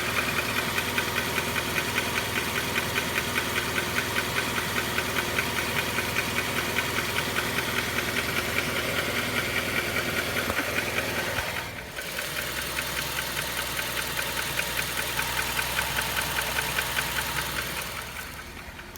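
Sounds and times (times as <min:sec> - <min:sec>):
car engine running: 0:00.0 - 0:18.9
rapid engine ticking: 0:00.0 - 0:18.9.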